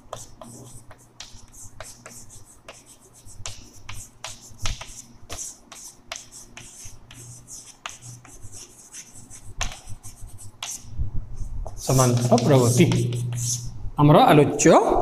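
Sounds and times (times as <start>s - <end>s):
chalk tapping on blackboard: 0.0s - 10.9s, 11.7s - 13.7s
chalk scratching strokes: 0.0s - 13.7s.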